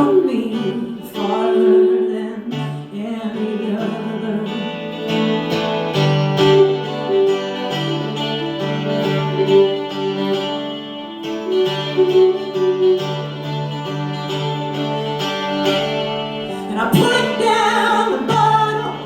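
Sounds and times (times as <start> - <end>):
acoustic guitar plucking: 0.0 - 19.0
violin long held notes: 0.0 - 19.0.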